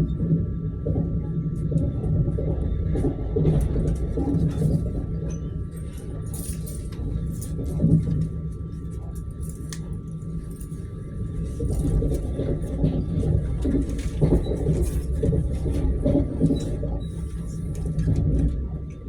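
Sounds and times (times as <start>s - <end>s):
train wheels rumbling on rails: 0.0s - 9.2s, 9.8s - 19.0s
faint steady whine: 0.0s - 19.0s.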